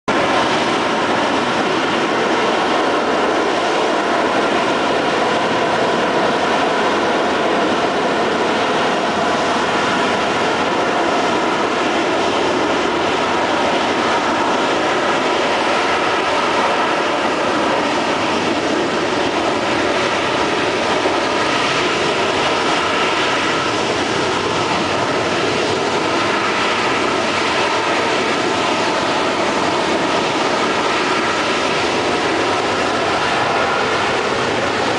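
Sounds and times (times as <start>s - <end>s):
jet engine roaring with whine: 0.1s - 34.9s.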